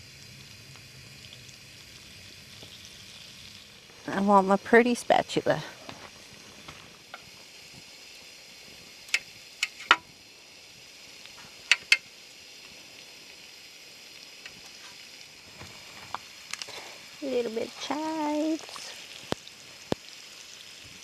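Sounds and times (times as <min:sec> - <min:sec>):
potatoes sizzling in a pan: 0:00.0 - 0:21.0.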